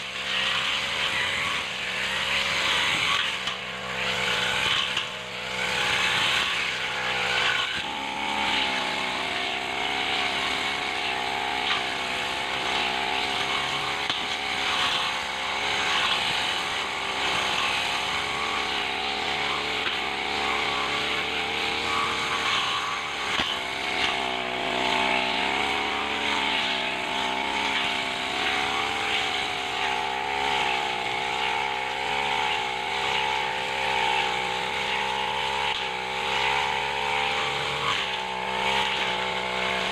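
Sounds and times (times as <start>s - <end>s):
brush cutter engine running: 0.0s - 39.9s
cutter slashing through grass: 0.0s - 39.9s.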